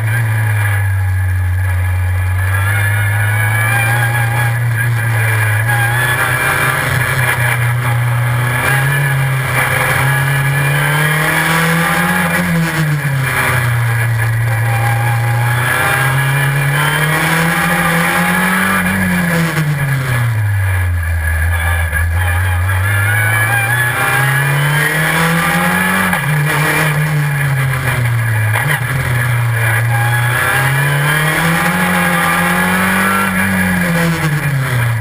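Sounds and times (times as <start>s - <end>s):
race car engine accelerating: 0.0s - 35.0s.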